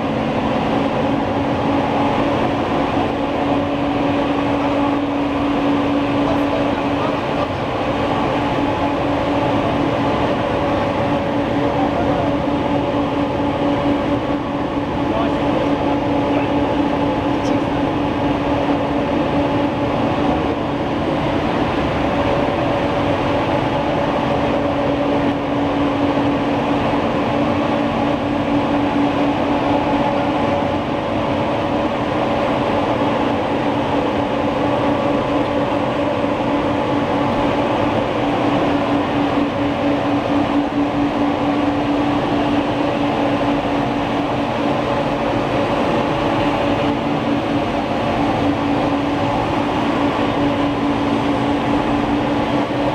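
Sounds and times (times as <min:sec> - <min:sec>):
constant machine hum: 0:00.0 - 0:52.9
printing press mechanical rumble: 0:00.0 - 0:52.9.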